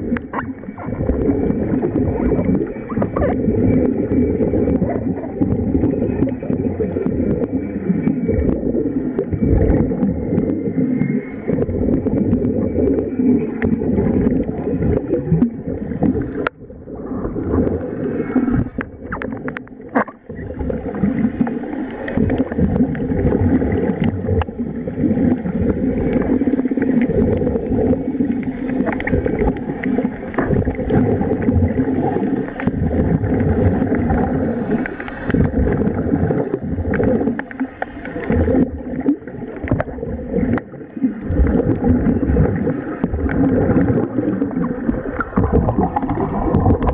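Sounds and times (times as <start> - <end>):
underwater air bubbling: 0.0 - 46.9.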